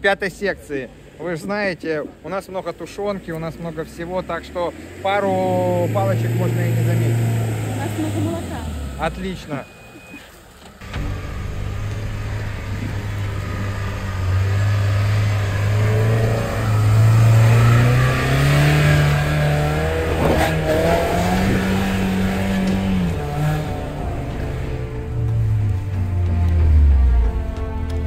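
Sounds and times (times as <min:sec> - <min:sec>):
engine revving: 0:03.4 - 0:09.8, 0:10.8 - 0:28.0.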